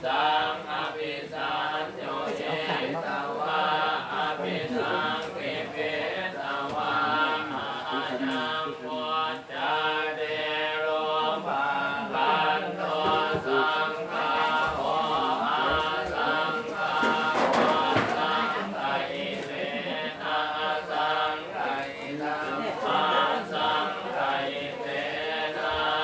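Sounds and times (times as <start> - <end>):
voices chanting in monotone: 0.0 - 26.0.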